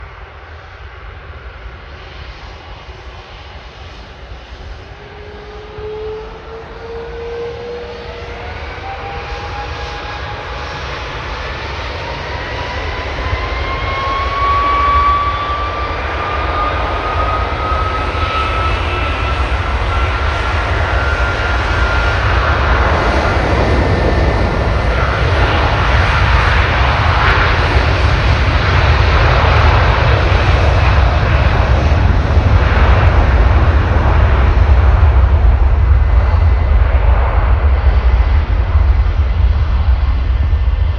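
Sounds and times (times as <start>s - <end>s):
jet engines spooling up: 2.0s - 40.9s.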